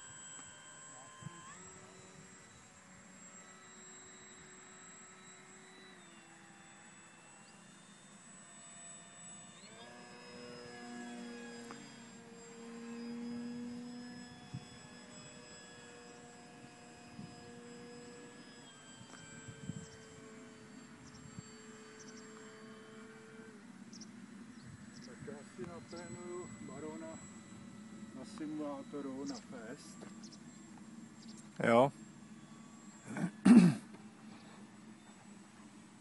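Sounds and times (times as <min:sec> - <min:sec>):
model plane motor whining: 0:00.0 - 0:36.0.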